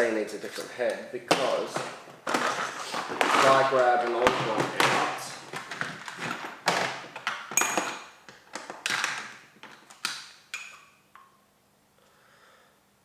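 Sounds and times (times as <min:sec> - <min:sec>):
small hard parts clattering: 0:00.4 - 0:11.0.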